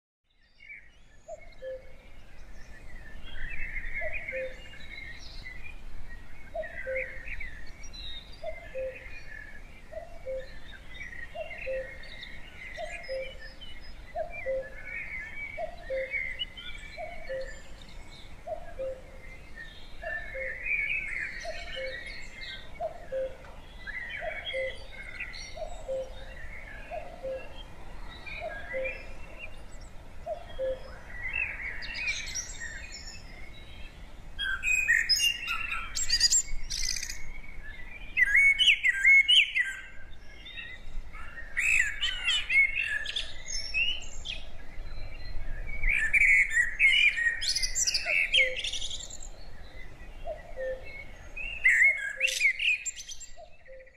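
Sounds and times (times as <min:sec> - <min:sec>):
birds chirping and twittering: 0:00.2 - 0:53.9.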